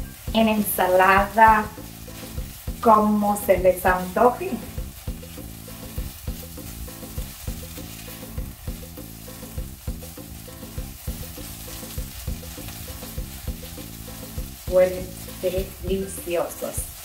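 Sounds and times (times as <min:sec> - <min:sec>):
background music with steady beat: 0:00.0 - 0:17.0
vegetables sizzling in a pot: 0:00.0 - 0:17.0.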